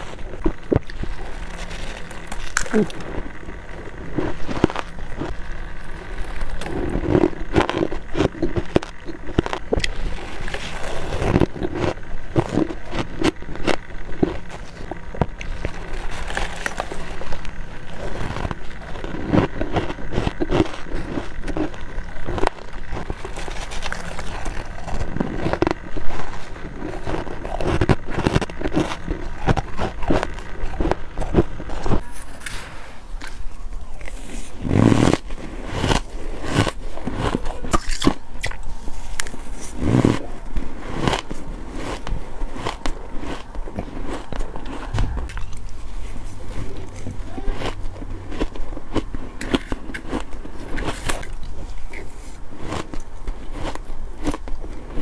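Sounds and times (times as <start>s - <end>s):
frost being chewed crunching: 0.0s - 55.0s.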